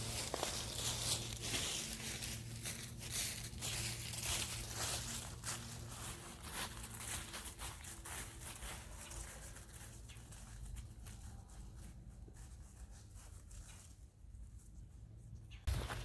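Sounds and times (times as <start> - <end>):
footsteps crunching through dry leaves: 0.0 - 14.1, 15.7 - 16.0.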